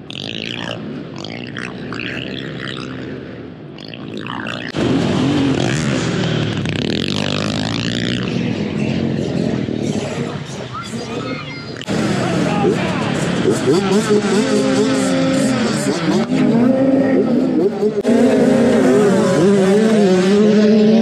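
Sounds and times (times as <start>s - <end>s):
dirt bike engine running hard: 0.0s - 21.0s.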